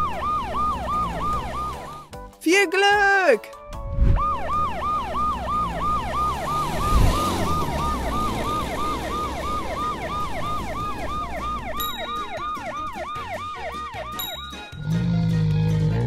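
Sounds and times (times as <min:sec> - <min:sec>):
ambulance siren wailing: 0:00.0 - 0:02.1, 0:03.8 - 0:15.3.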